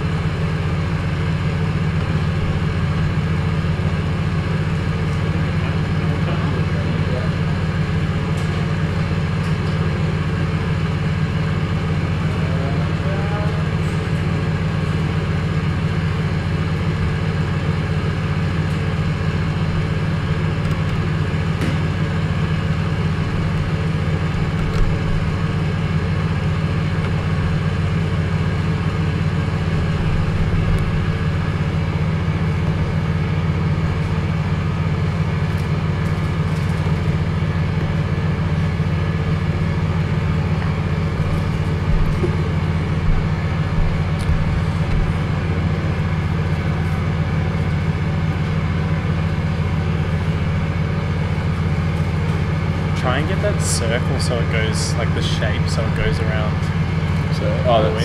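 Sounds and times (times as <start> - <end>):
loud low drone: 0.0 - 58.0.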